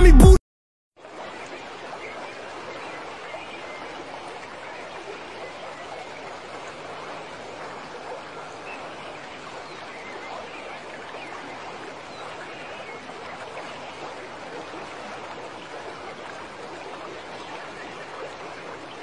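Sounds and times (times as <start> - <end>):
river water lapping around boat: 1.0 - 19.0.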